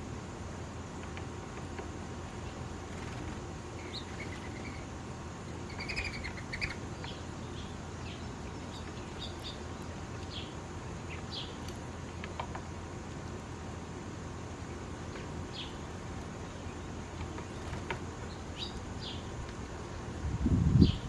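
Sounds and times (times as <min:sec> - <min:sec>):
low background rumble: 0:00.0 - 0:21.0
small birds chirping: 0:01.0 - 0:13.6, 0:14.2 - 0:20.1.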